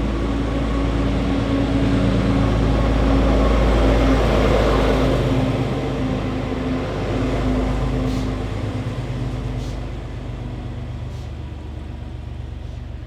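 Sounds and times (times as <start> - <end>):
train diesel engine running: 0.0 - 13.0.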